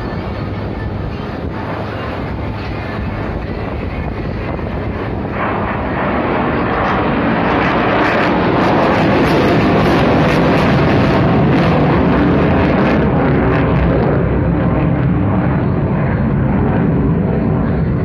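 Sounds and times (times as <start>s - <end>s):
fighter jet flying away: 0.0s - 18.0s.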